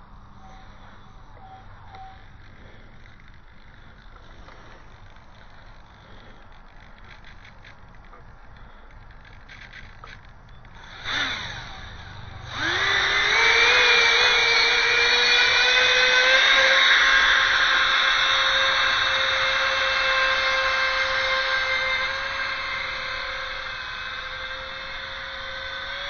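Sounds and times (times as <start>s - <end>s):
electric ducted fan whine: 0.0s - 26.0s.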